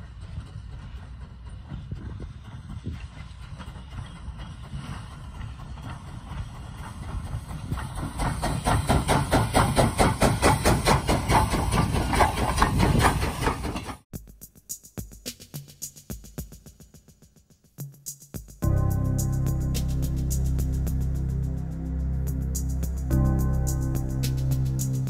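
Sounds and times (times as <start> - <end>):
steam locomotive passing: 0.0 - 14.0, 18.6 - 25.0.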